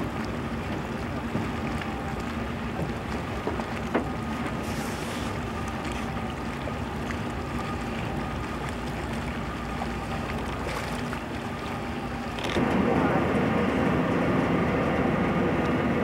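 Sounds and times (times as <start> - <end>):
ship engine drone: 0.0 - 16.0
water noise: 0.0 - 16.0
wind: 0.0 - 16.0.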